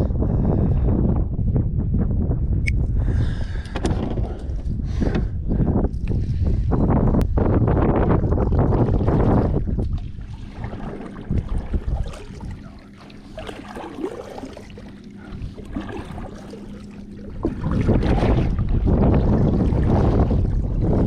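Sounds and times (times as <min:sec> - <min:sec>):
low hum: 0:00.0 - 0:21.0
wind buffeting microphone: 0:00.0 - 0:21.0.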